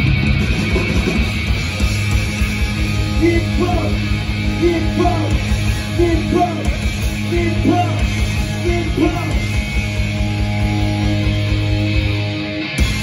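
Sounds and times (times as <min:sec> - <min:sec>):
rock band playing loud: 0:00.0 - 0:13.0.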